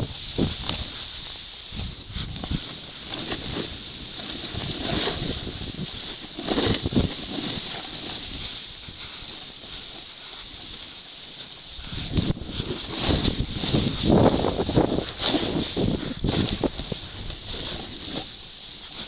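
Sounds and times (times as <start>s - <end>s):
wind noise on microphone: 0.0s - 10.9s, 11.6s - 19.0s
ski edges scraping snow: 0.0s - 19.0s.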